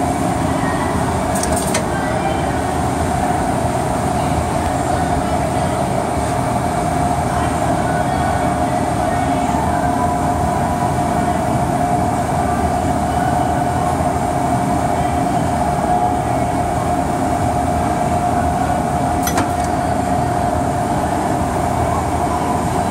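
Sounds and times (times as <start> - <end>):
constant machine whine: 0.0 - 22.9
punch press mechanical drone: 0.0 - 22.9.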